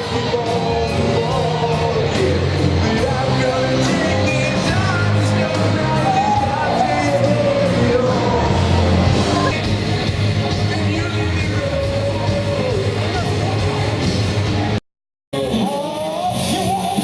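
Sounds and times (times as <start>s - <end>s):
person singing: 0.0s - 9.7s, 10.5s - 13.9s, 15.4s - 17.0s
rock music: 0.0s - 14.8s, 15.4s - 17.0s.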